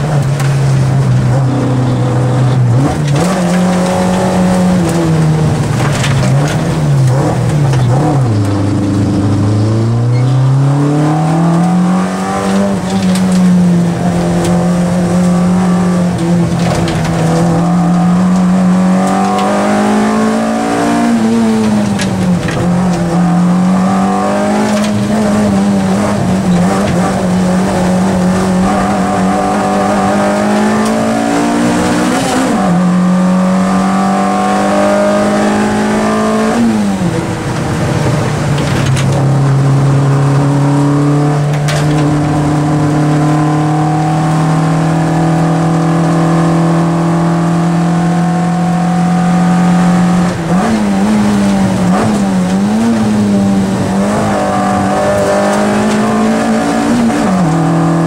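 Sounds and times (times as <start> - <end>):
car engine under load: 0.0 - 58.0.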